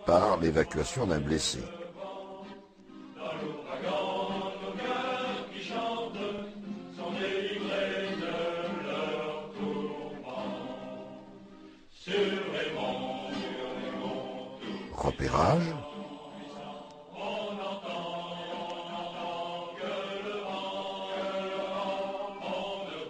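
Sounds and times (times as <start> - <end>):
choir singing held notes: 0.0 - 23.0.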